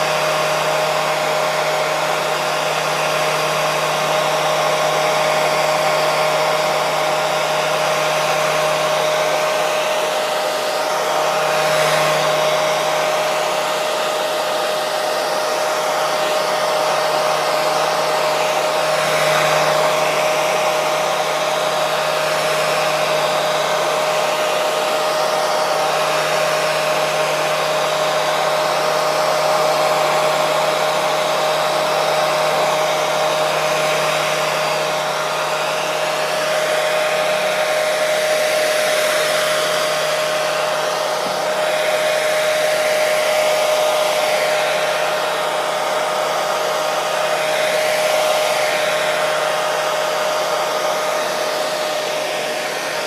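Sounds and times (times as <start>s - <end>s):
hair dryer running: 0.0s - 53.0s.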